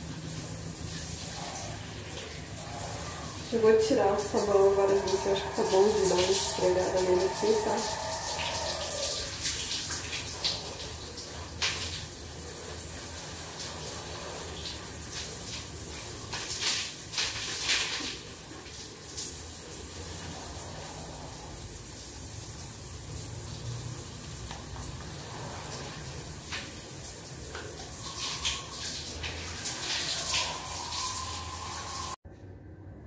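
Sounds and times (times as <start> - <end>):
shower spray running: 0.0 - 32.2.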